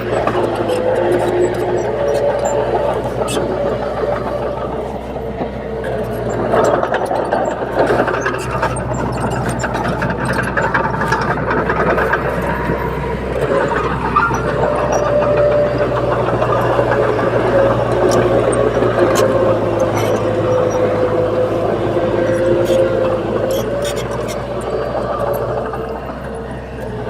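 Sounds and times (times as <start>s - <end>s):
bulldozer diesel engine running: 0.0s - 27.0s.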